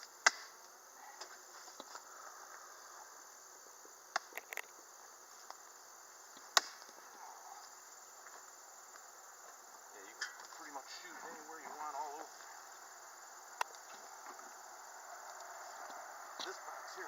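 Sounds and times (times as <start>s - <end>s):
faint insect hum: 0.0s - 17.0s.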